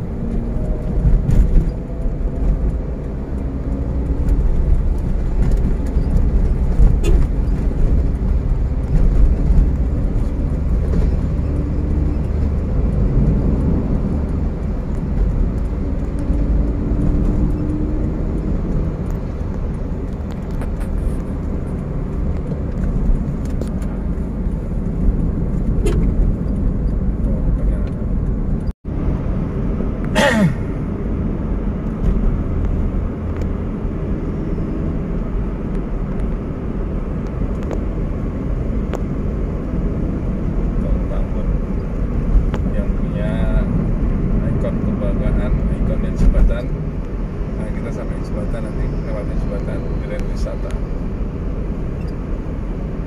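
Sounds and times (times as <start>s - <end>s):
road and engine rumble in car: 0.0s - 53.0s.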